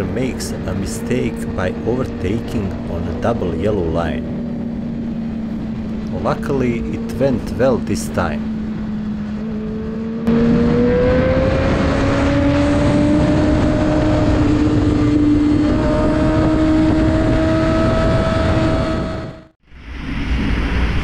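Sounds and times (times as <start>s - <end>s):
motorcycle engine accelerating: 0.0s - 19.6s
wind noise: 0.0s - 21.0s.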